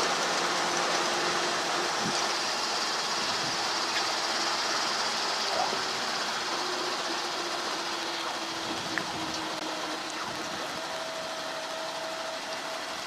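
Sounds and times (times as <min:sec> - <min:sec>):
helicopter engine and rotor: 0:00.1 - 0:13.0.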